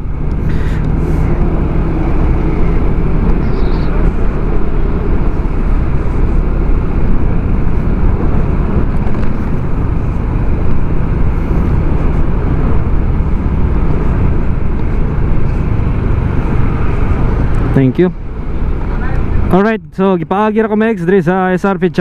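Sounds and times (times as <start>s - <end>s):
wind rushing over microphone: 0.0s - 19.7s
scooter engine and road noise: 0.0s - 22.0s.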